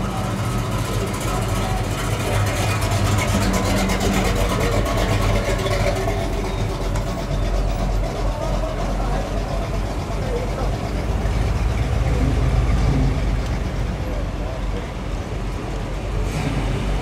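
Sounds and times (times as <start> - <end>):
car exhausts rumbling: 0.0 - 17.0.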